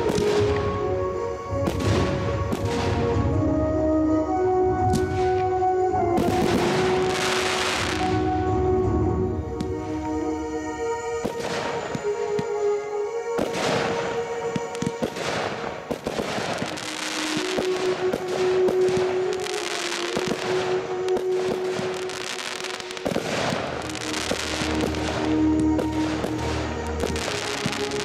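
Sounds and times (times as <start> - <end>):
fireworks crackling and popping: 0.0 - 12.7, 13.3 - 28.0
music with long held notes: 0.0 - 28.0.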